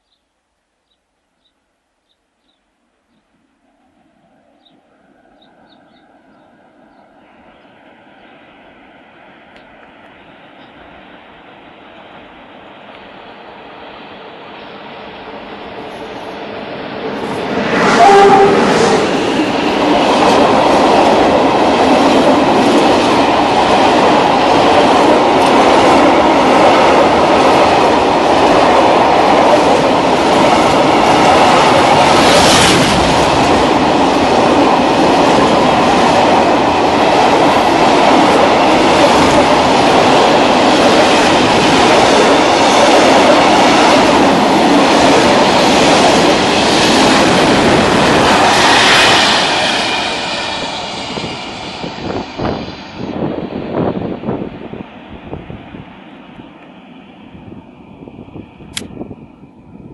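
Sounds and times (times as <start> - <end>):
freight train passing: 3.0 - 59.9.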